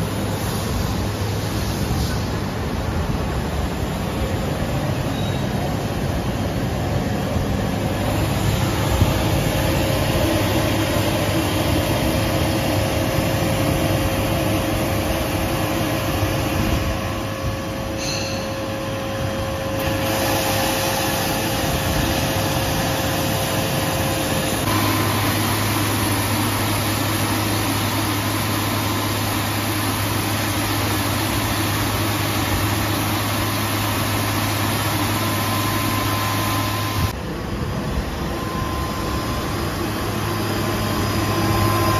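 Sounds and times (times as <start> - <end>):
constant machine whine: 0.0 - 41.9
machine hum: 0.0 - 41.9.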